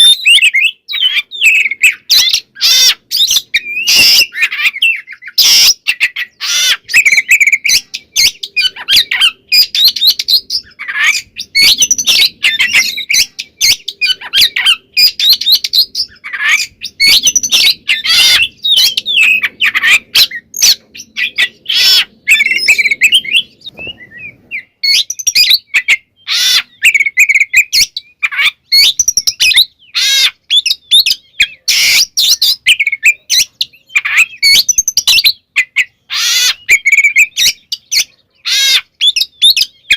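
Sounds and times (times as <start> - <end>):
songbird singing varied chirps: 0.0 - 39.9.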